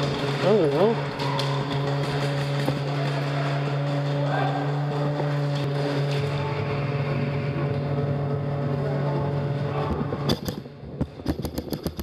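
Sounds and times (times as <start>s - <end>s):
low machine hum: 0.0s - 11.4s.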